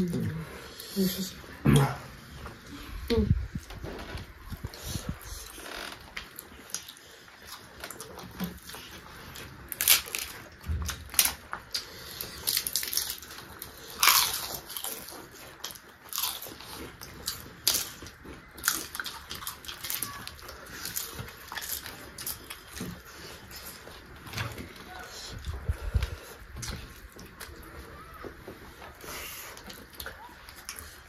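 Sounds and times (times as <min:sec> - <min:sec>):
people chewing food: 0:00.0 - 0:31.0.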